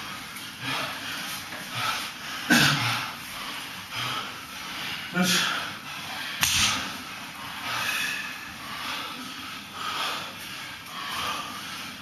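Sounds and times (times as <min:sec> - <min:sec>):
heavy rasping breathing: 0:00.0 - 0:12.0.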